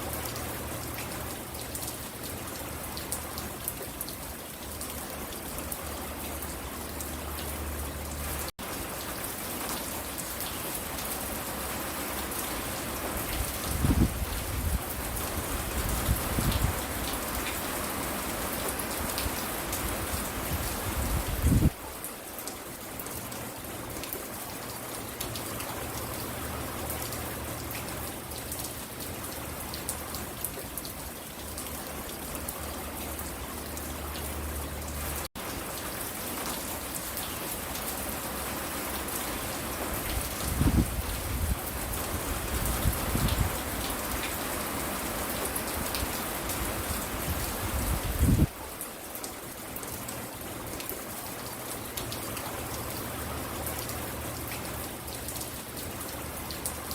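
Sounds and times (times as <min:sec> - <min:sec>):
steady rain patter: 0:00.0 - 0:56.9.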